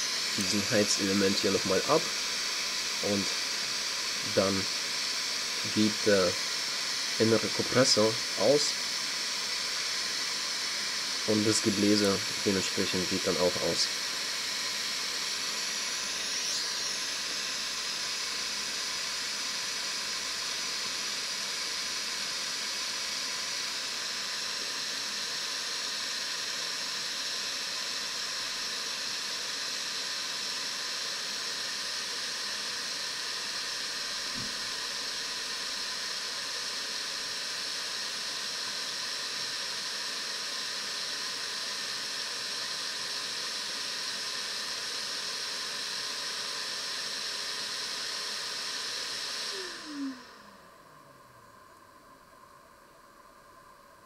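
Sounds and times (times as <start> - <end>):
hot air station blowing hiss: 0.0 - 51.3.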